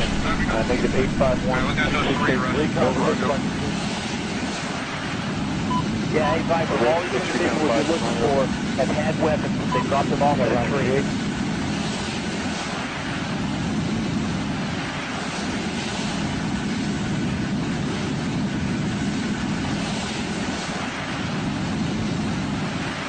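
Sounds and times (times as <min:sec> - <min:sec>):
jet aircraft roar: 0:00.0 - 0:23.0.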